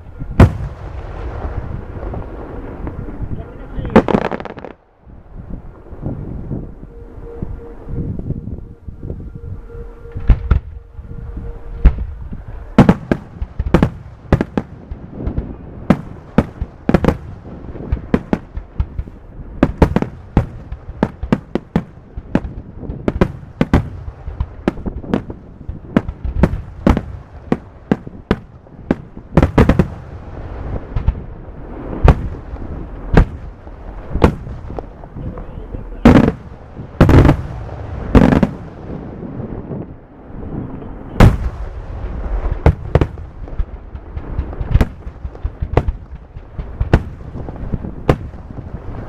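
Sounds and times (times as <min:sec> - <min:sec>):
fireworks bangs: 0:00.0 - 0:49.0
rumble of fireworks reports: 0:00.0 - 0:49.0.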